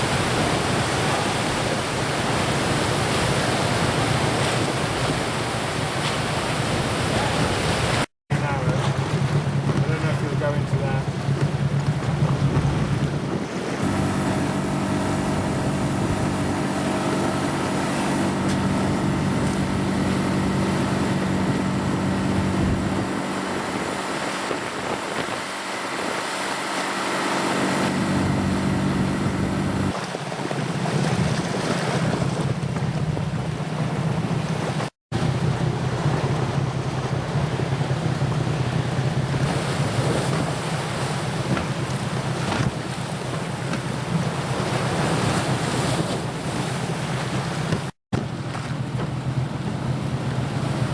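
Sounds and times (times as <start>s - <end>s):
wind on microphone: 0.0s - 47.9s
boat engine running: 0.0s - 50.9s
sea waves: 0.0s - 50.9s.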